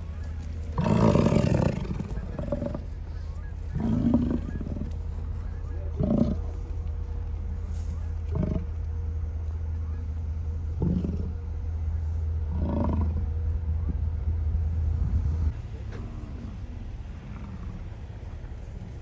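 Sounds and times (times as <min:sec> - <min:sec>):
bison grunting: 0:00.0 - 0:14.1, 0:15.8 - 0:18.4
steady low hum: 0:00.0 - 0:19.0.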